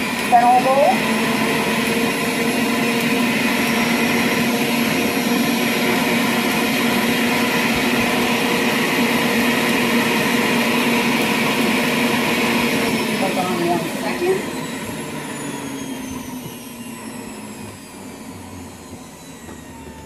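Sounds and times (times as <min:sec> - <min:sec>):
electric juicer motor drone: 0:00.0 - 0:20.0.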